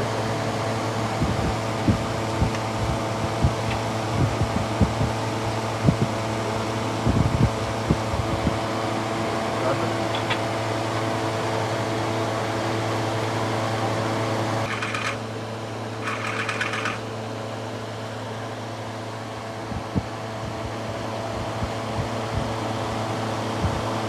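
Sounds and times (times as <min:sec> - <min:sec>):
machine humming: 0:00.0 - 0:17.1, 0:18.5 - 0:24.0.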